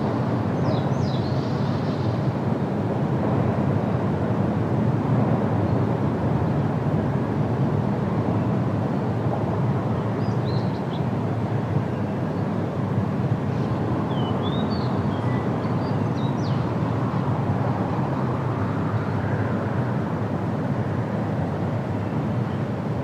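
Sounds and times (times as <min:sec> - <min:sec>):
wind rushing through leaves: 0:00.0 - 0:23.0.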